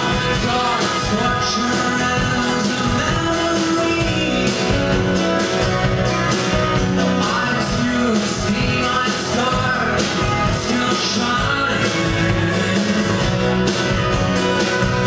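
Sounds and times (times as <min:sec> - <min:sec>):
acoustic guitars strummed: 0:00.0 - 0:15.0
drum kit: 0:00.0 - 0:15.0
man singing: 0:00.0 - 0:15.0.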